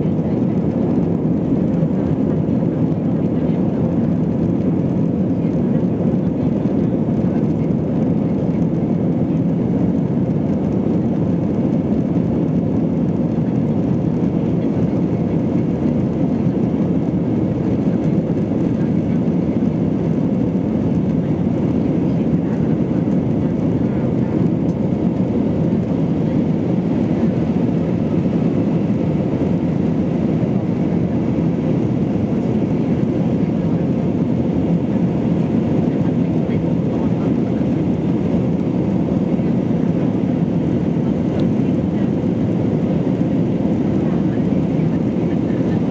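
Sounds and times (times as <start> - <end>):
jet engines at climb power: 0.0 - 45.9.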